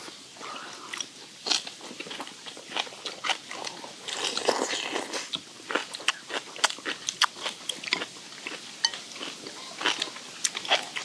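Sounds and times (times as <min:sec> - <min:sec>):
chewing and crunching: 0:00.0 - 0:11.0.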